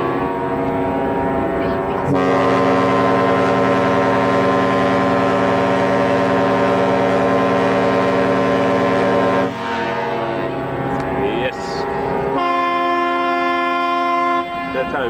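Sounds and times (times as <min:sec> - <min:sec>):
ship's horn blast: 0:00.0 - 0:15.0.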